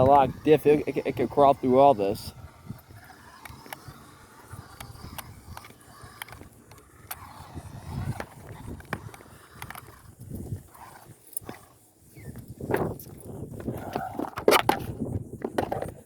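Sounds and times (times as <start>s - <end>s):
toy car crunching over ground: 0.0s - 11.8s, 12.4s - 16.0s.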